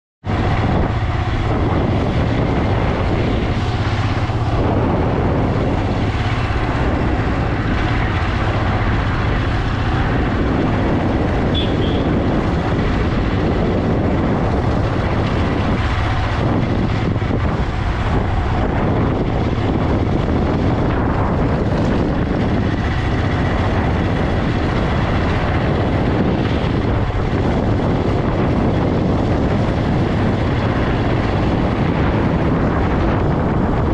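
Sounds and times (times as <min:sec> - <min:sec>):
motorcycle engine drone: 0:00.2 - 0:33.9
wind rushing over microphone: 0:00.2 - 0:33.9.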